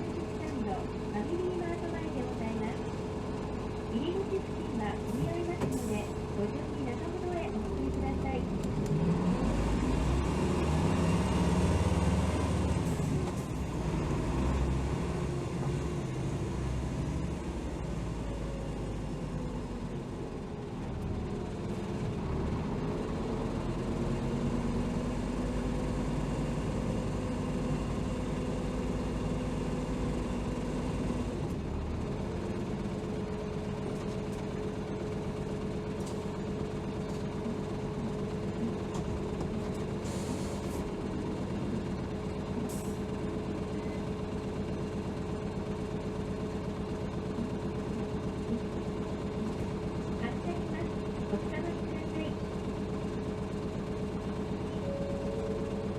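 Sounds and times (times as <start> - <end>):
bus diesel engine running: 0.0 - 55.9.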